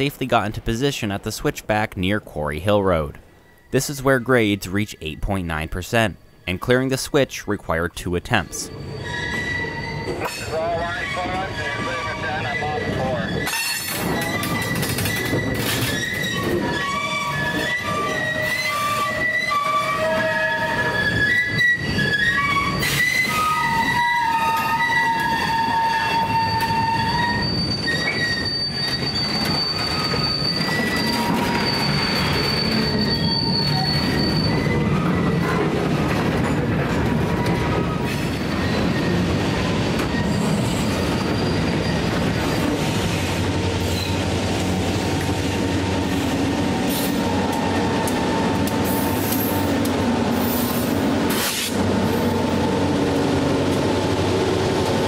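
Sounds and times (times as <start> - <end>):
diesel locomotive drone: 0.0 - 55.0
freight cars rumbling: 0.0 - 55.0
train wheels squealing on rail: 3.2 - 5.2, 6.0 - 6.8, 8.3 - 55.0.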